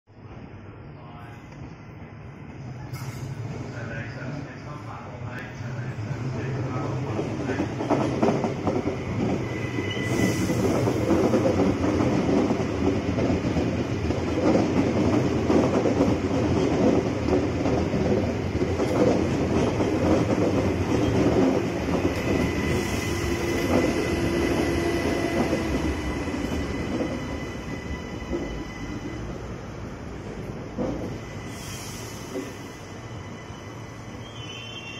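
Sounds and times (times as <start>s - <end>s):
train wheels rumbling on rail: 1.5s - 34.9s.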